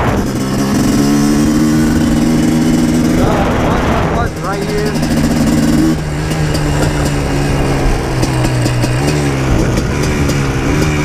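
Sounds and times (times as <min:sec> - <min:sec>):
two-stroke engine running: 0:00.0 - 0:11.0.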